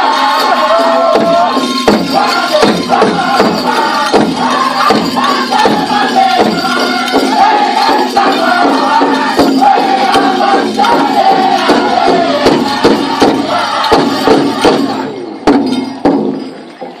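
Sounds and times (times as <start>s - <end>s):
group singing high-pitched: 0.0s - 15.4s
large drum beating: 0.8s - 16.6s.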